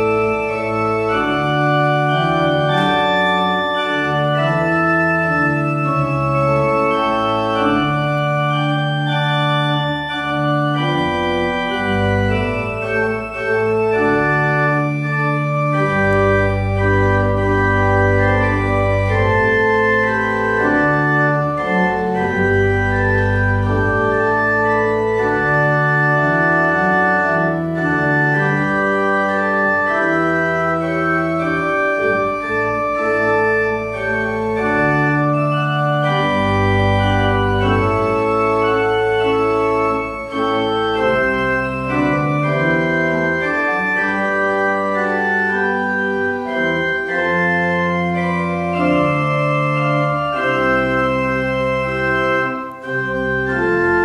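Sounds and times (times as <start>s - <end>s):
church organ playing chords: 0.0s - 54.0s.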